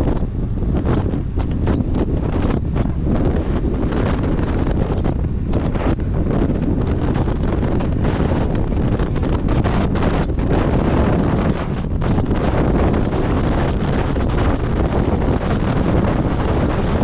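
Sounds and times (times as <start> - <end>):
gusting wind buffeting microphone: 0.0 - 17.0.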